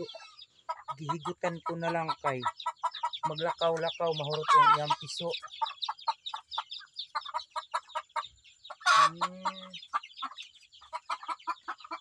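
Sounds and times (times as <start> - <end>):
chicks peeping: 0.0 - 12.0
hen calling: 0.0 - 12.0.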